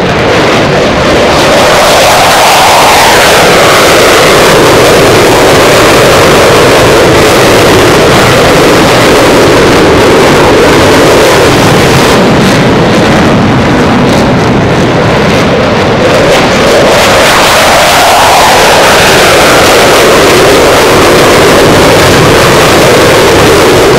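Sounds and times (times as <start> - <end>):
fighter jet engine roar: 0.0 - 23.9.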